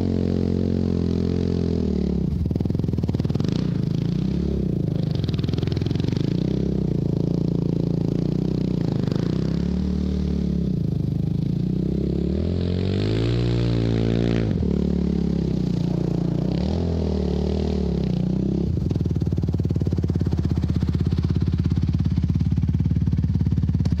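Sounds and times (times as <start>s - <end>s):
quad engine revving: 0.0s - 24.0s.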